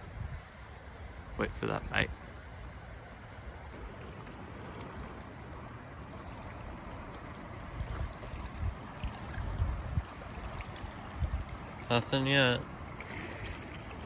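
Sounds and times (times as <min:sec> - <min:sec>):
wind buffeting microphone: 0:00.0 - 0:02.1, 0:03.7 - 0:14.0
river rushing: 0:02.2 - 0:14.0.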